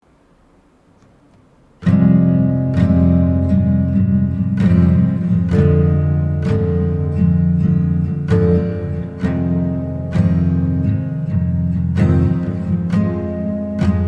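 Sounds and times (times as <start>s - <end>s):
strummed guitar chords: 1.8s - 14.0s.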